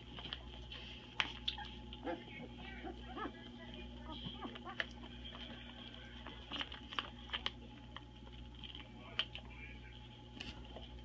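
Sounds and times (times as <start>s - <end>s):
puppies suckling: 0.0s - 11.0s.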